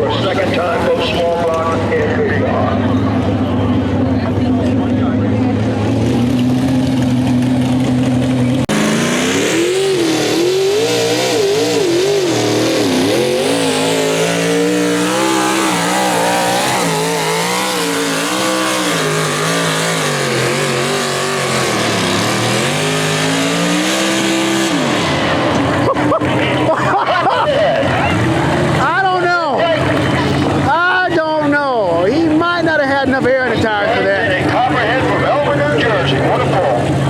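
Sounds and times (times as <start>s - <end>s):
tractor engine at full throttle: 0.0s - 37.0s.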